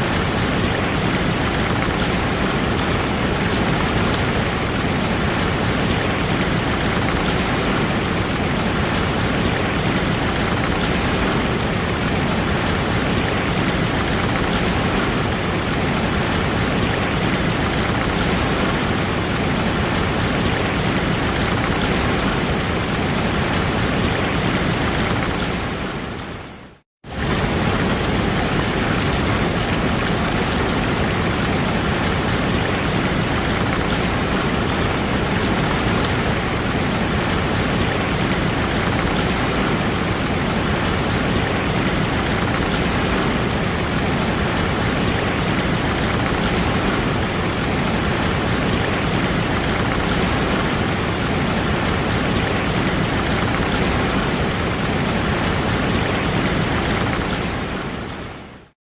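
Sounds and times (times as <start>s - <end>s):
waterfall rushing: 0.0s - 58.7s.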